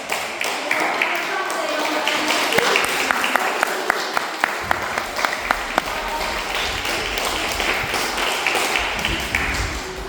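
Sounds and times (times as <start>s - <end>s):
children applauding: 0.0s - 10.0s
sharp individual claps: 0.0s - 10.0s.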